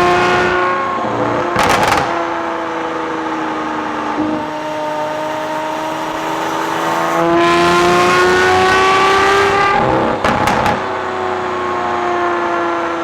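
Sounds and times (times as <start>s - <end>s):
sports car engine revving: 0.0s - 12.1s.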